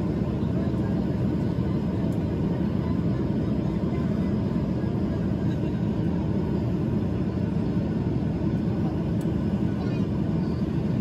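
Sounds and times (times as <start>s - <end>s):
jet engine drone: 0.0s - 11.0s.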